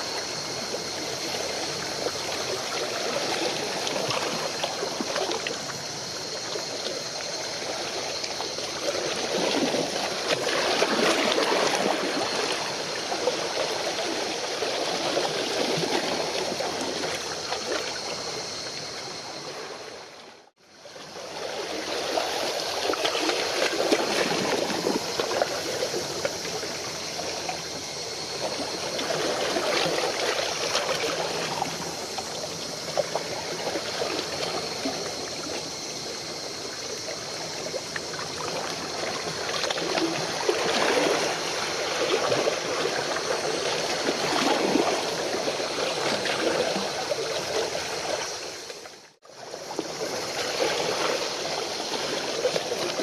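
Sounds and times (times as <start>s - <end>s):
water splashing and lapping: 0.0s - 53.0s.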